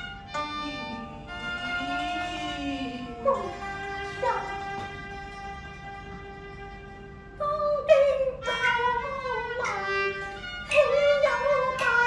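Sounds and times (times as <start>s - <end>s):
bowed fiddle melody: 0.0s - 12.0s.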